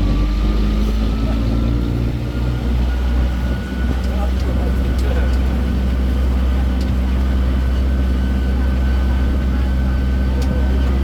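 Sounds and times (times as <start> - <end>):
road train engine hum: 0.0 - 11.0.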